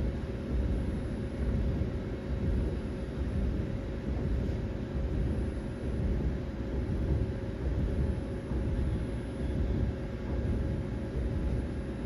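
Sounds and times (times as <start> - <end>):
faint constant tone: 0.0 - 12.0
lathe rumbling and humming: 0.0 - 12.0.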